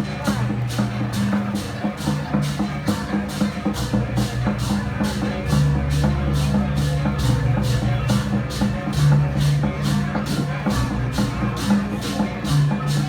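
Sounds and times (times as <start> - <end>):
percussion music with drums: 0.0 - 13.0.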